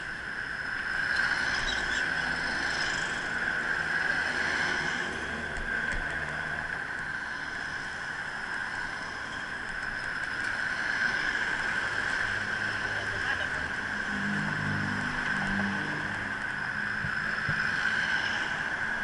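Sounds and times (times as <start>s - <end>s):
low engine hum: 0.0s - 19.0s
vehicle engines passing: 0.0s - 19.0s
wind and road noise: 0.0s - 19.0s.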